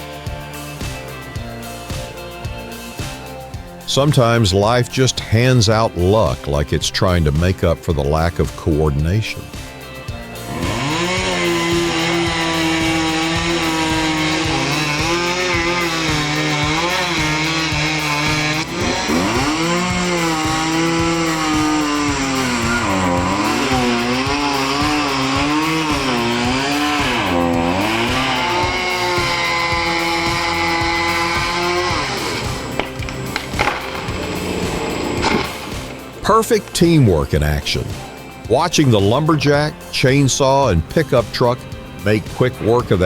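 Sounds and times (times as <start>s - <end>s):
background music: 0.0s - 43.0s
chainsaw cutting wood: 0.0s - 43.0s.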